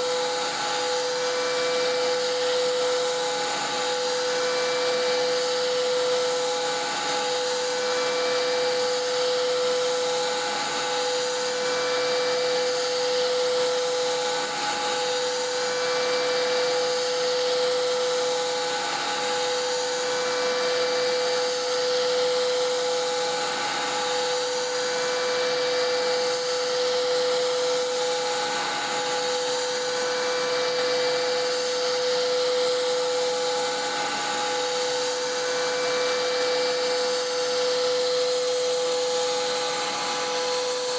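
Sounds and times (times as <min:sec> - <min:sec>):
cnc router cutting tone: 0:00.0 - 0:40.9.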